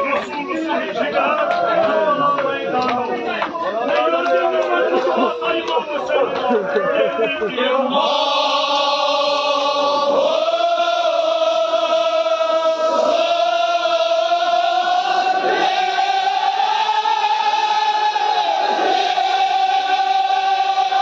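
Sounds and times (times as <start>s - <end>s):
crowd of men chanting: 0.0s - 21.0s.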